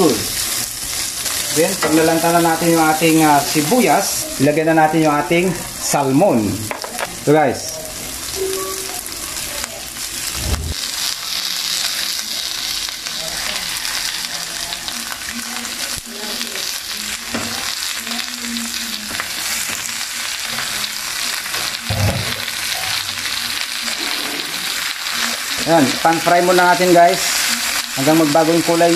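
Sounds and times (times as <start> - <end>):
fish sizzling in hot oil: 0.0 - 28.9.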